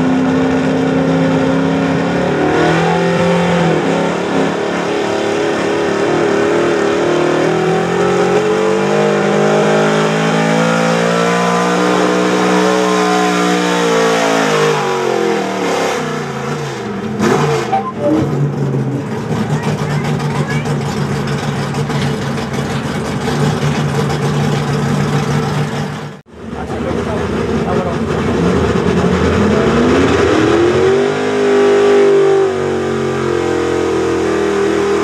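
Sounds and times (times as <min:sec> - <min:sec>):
truck engine revving under load: 0:00.0 - 0:35.0.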